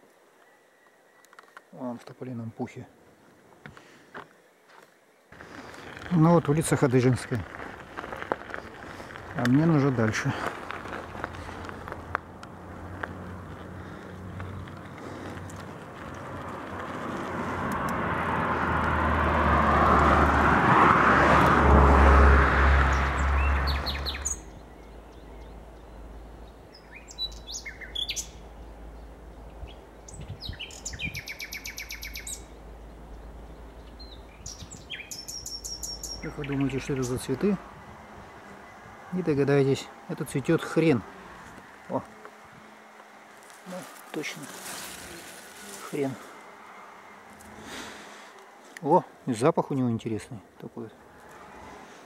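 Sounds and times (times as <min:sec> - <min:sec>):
songbirds chirping: 0:00.0 - 0:19.1, 0:22.6 - 0:52.0.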